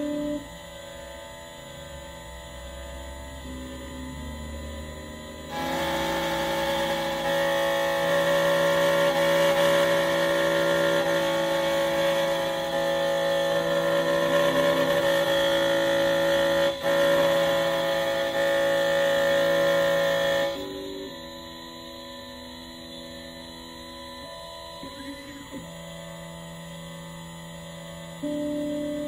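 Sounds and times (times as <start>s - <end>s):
key cutting machine whining: 0.0s - 29.0s.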